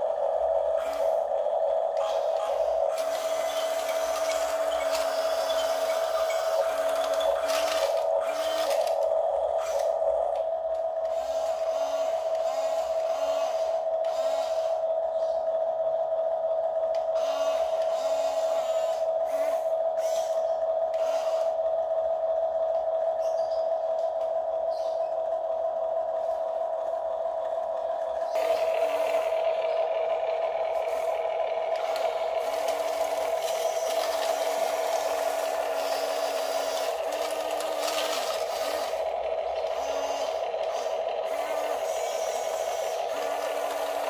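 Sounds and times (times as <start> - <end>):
short lower motor whines: 0.0 - 44.0
steady high motor whine: 0.0 - 44.0.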